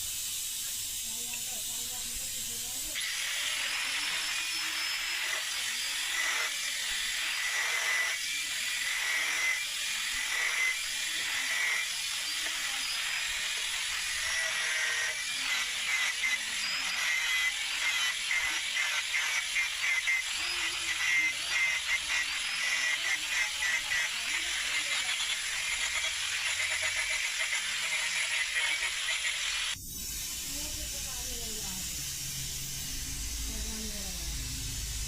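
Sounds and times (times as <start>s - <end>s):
power grinder grinding knife blade: 1.3s - 29.8s.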